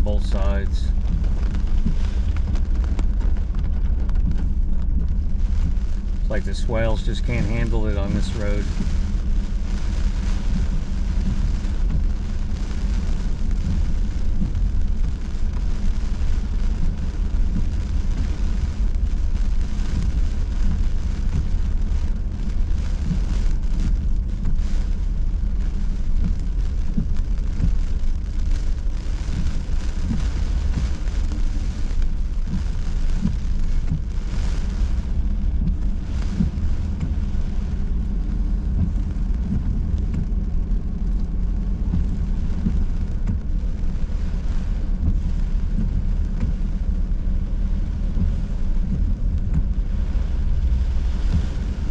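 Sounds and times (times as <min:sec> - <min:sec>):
engine and tyres rumbling: 0:00.0 - 0:51.9
heavy rain hissing on car: 0:00.0 - 0:51.9
wind: 0:00.0 - 0:51.9.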